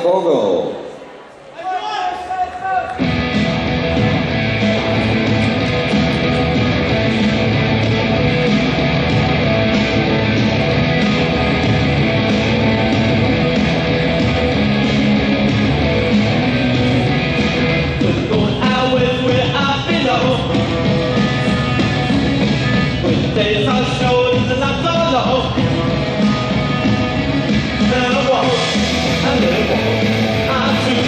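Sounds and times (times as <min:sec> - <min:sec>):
guitar rock music: 0:03.0 - 0:31.0.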